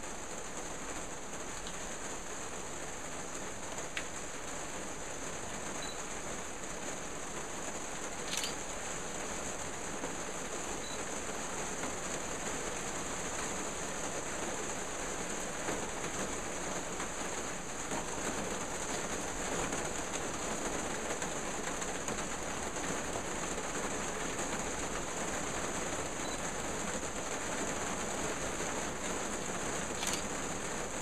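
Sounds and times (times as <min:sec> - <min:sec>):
rain on a plastic roof: 0:00.0 - 0:31.0.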